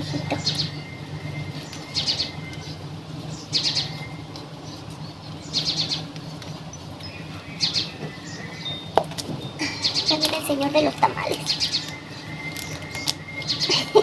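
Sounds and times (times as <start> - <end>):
bird chirping in trilled bursts: 0.0 - 14.0
steady low hum: 0.0 - 14.0.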